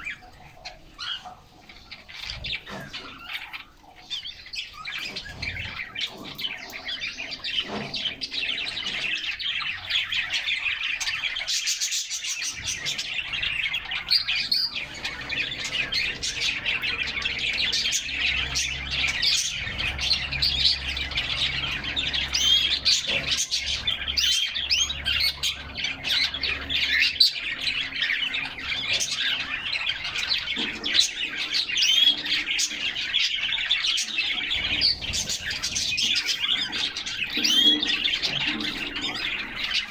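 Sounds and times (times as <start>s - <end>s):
canaries singing: 0.0s - 39.9s.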